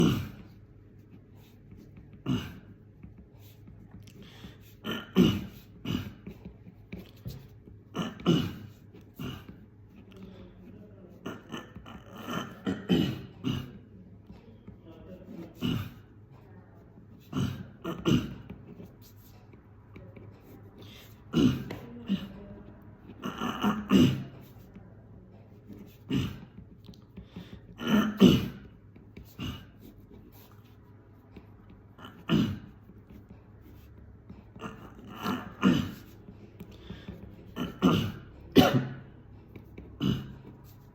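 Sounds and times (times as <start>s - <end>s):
person clearing throat: 0.0s - 0.6s, 2.0s - 3.2s, 4.2s - 10.4s, 11.1s - 19.3s, 20.2s - 30.8s, 31.4s - 40.9s.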